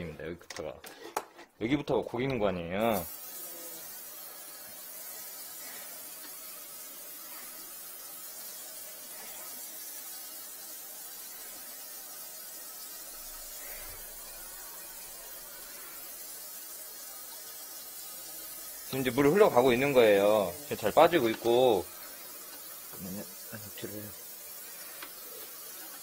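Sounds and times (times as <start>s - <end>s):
tap water running down drain: 2.8s - 26.0s.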